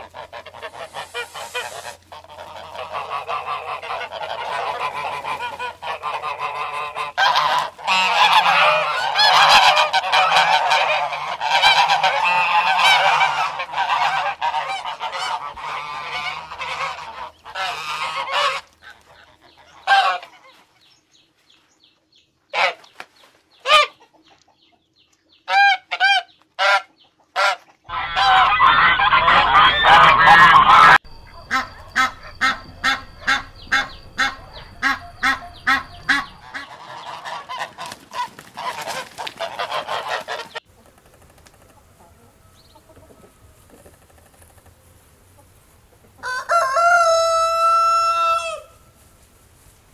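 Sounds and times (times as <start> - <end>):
ducks calling: 0.0 - 20.8, 22.5 - 48.8.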